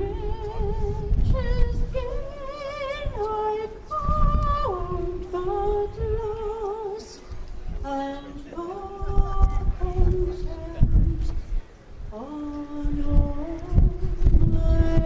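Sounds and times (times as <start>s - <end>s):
woman singing: 0.0s - 11.2s, 12.1s - 15.0s.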